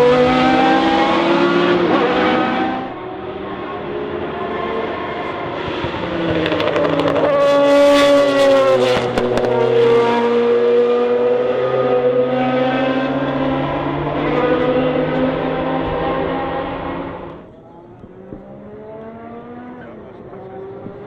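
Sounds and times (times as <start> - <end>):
race car engine at speed: 0.0 - 21.0.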